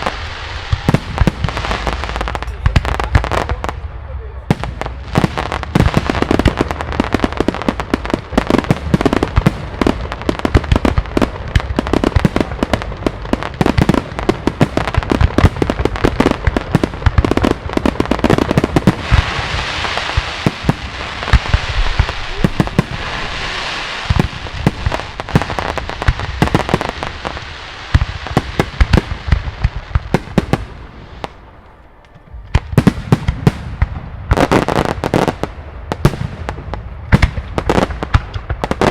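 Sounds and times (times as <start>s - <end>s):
fireworks bursts and bangs: 0.0s - 31.5s, 32.4s - 38.9s
fireworks hissing crackle: 0.0s - 38.9s.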